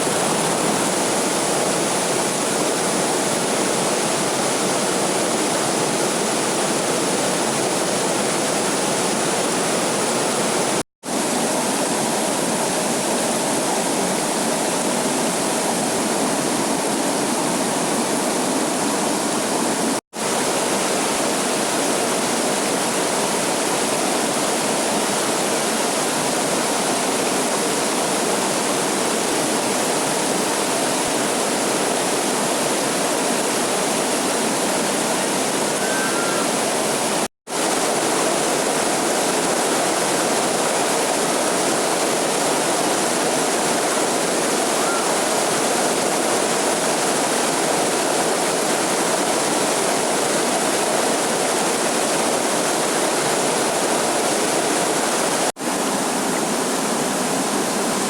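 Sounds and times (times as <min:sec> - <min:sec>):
waterfall rushing: 0:00.0 - 0:13.5, 0:14.2 - 0:58.0.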